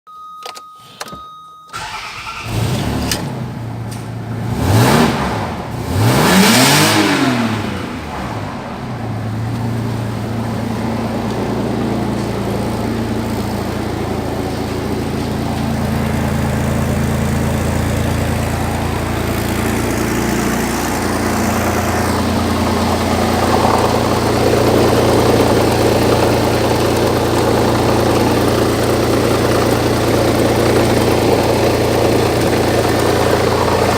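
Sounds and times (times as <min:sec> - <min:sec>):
car engine starting and revving: 0:01.7 - 0:33.9.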